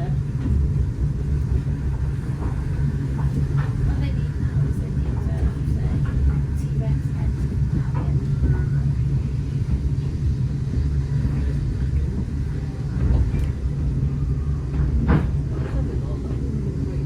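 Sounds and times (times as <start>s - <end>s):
railway carriage rumbling on track: 0.0s - 17.0s
track knocks: 0.4s - 16.5s.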